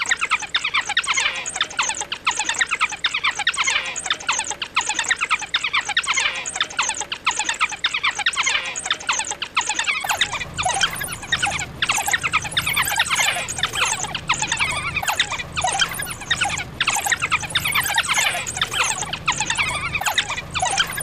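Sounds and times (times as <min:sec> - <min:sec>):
wild dogs twittering: 0:03.2 - 0:21.0.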